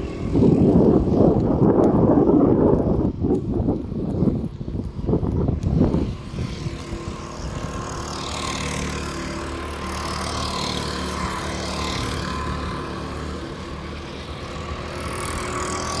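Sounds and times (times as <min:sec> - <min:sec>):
go-kart engine passing: 0:00.0 - 0:16.0
wind rumbling on microphone: 0:00.0 - 0:16.0.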